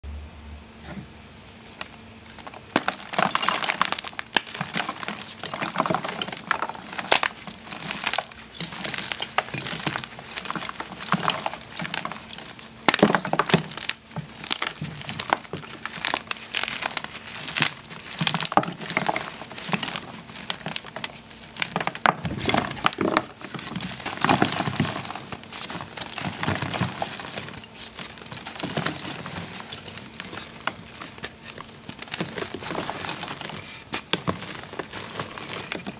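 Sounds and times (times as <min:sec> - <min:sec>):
chalk crushed between hands: 0:01.4 - 0:35.9.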